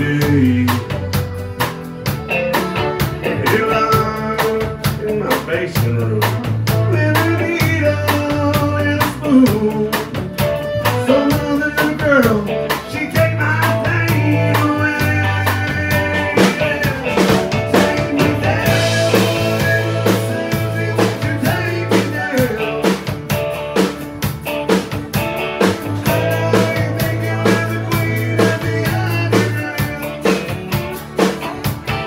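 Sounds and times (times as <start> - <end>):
country band playing: 0.0 - 32.0.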